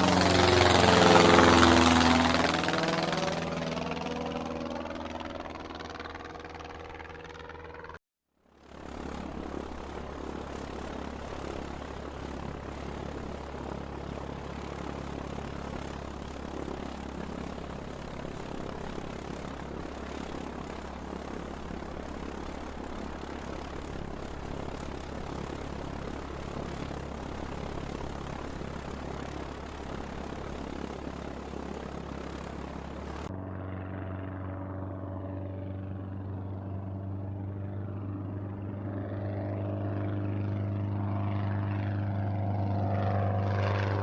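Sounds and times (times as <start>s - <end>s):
propeller airplane engine drone: 0.0s - 44.0s.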